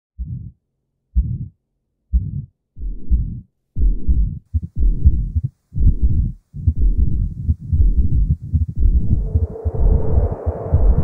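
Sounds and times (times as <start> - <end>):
heartbeat: 0.2 - 0.6, 1.2 - 11.0.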